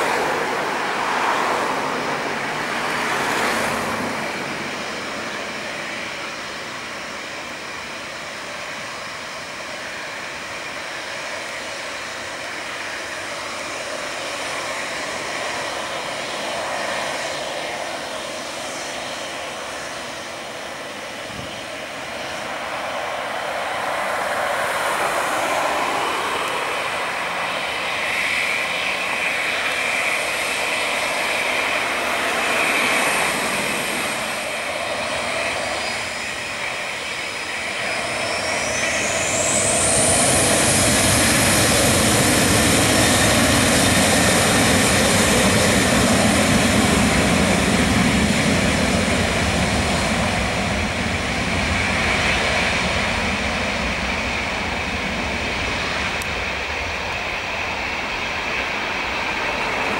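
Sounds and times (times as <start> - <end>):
jet engines whining and rumbling: 0.0 - 59.9.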